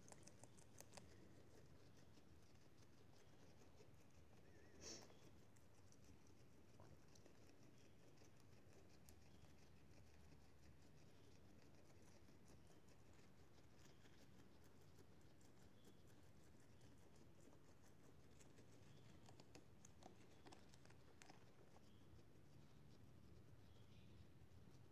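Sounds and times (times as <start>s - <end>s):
guinea pig chewing corn husk: 0.0s - 24.9s.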